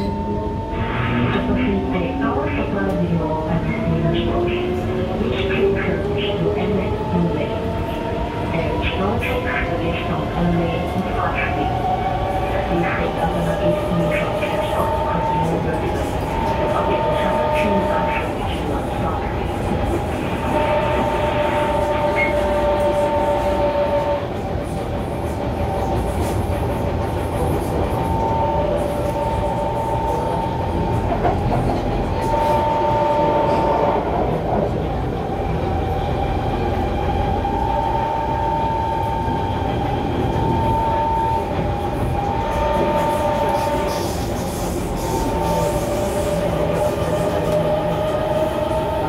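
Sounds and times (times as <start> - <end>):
train wheels rumbling on track: 0.0 - 49.0.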